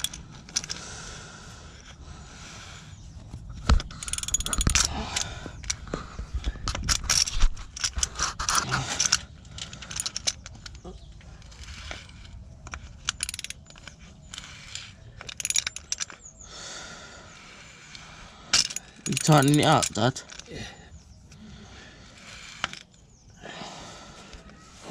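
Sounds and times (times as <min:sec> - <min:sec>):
ratchet clicking and scraping on metal: 0:00.0 - 0:01.1, 0:01.7 - 0:16.4, 0:17.2 - 0:20.8, 0:22.0 - 0:23.2.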